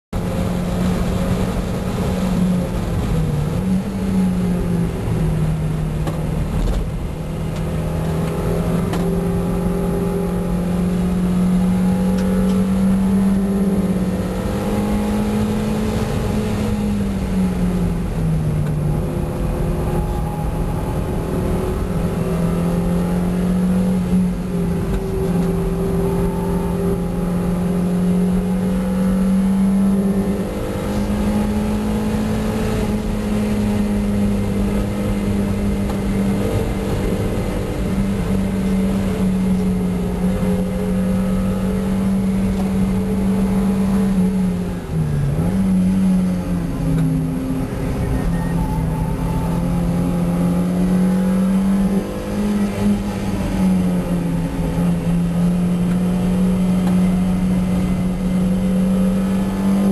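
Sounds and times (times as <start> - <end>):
car engine at high revs: 0.1 - 59.9.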